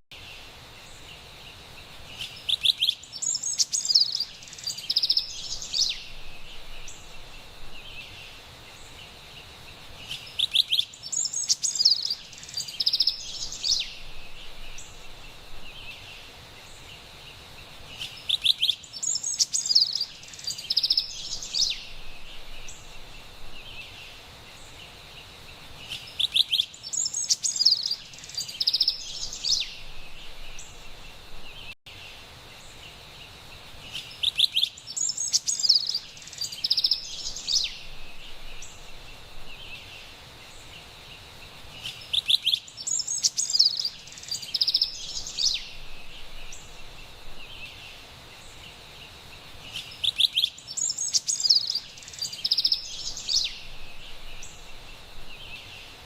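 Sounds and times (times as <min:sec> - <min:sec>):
songbird singing: 0:00.0 - 0:56.0
faint high hiss: 0:00.1 - 0:56.0.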